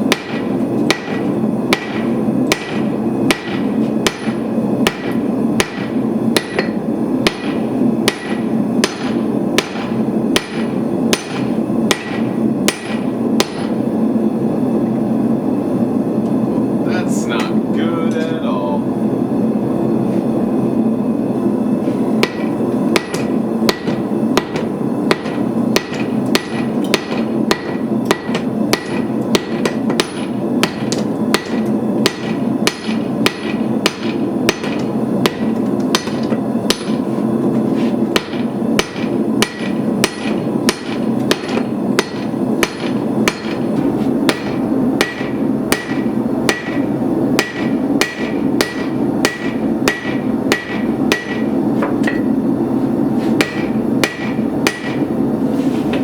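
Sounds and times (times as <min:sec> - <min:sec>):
hammer striking hot steel on anvil: 0:00.0 - 0:13.8, 0:22.0 - 0:52.4, 0:53.3 - 0:55.2.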